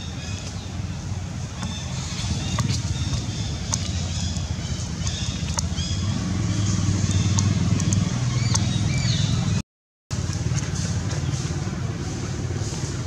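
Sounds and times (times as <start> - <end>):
motor vehicle engine drone: 0.0 - 13.0.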